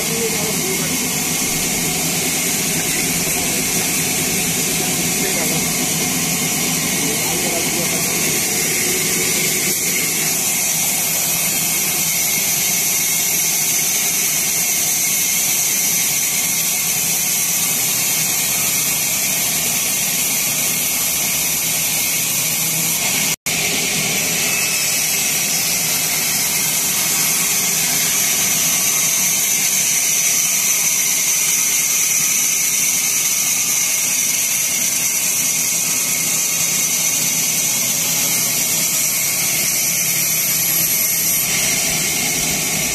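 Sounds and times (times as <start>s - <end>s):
sawmill saw whining: 0.0s - 42.9s.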